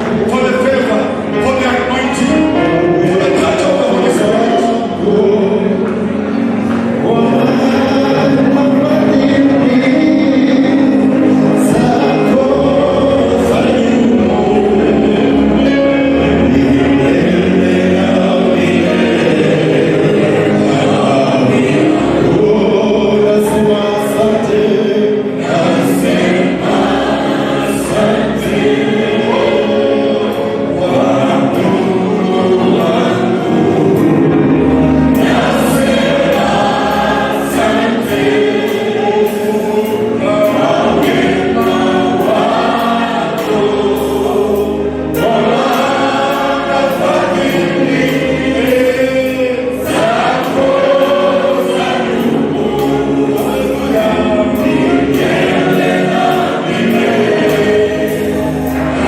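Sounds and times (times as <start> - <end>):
choir singing gospel: 0.0 - 59.0.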